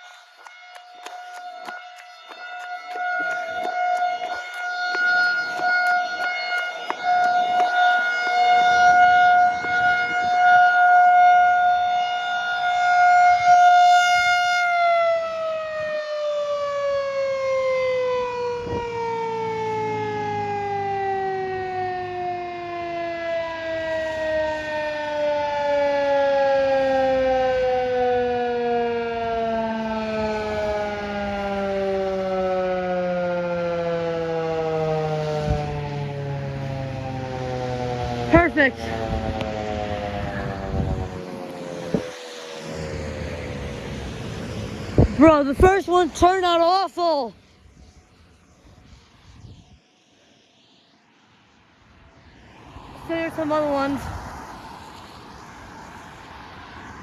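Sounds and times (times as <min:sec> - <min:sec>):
warning siren winding down: 0:00.0 - 0:47.3.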